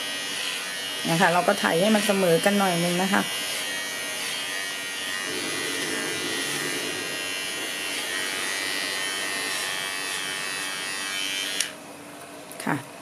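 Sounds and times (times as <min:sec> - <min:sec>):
electric hair clipper buzzing: 0:00.0 - 0:11.8.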